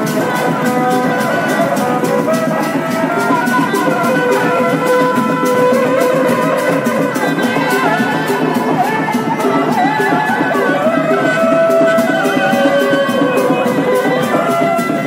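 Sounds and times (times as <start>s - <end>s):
drums and percussion beat: 0.0s - 15.0s
held melody line: 0.0s - 15.0s.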